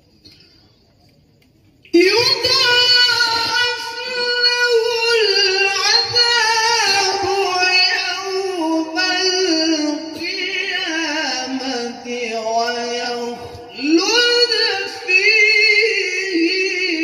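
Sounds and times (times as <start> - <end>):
man reciting melodically: 1.9 - 17.0.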